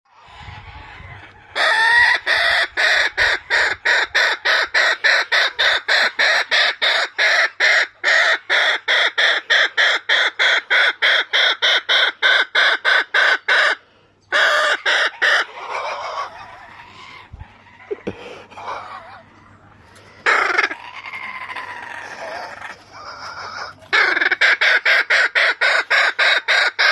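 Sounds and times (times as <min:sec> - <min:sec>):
kookaburra calling: 0:00.2 - 0:26.9.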